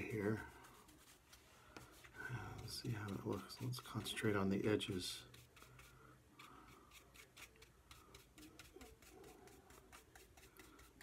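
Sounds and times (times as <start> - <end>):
paintbrush scratching on wood: 0.0 - 11.0.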